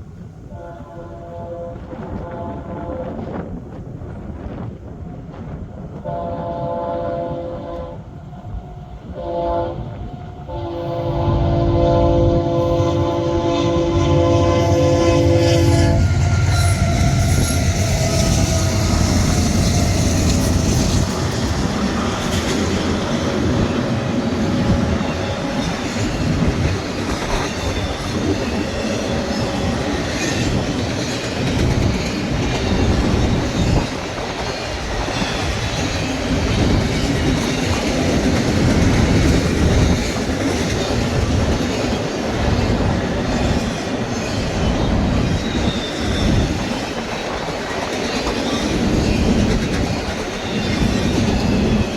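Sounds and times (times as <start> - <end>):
freight train cars rolling past: 0.0 - 51.9.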